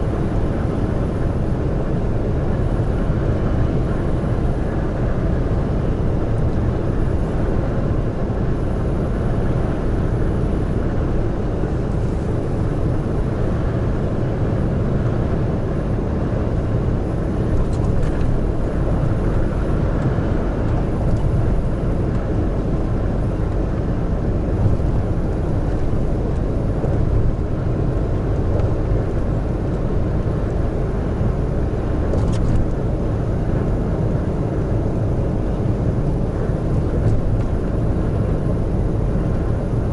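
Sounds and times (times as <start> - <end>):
heavy truck engine and tyres rumbling: 0.0 - 39.9.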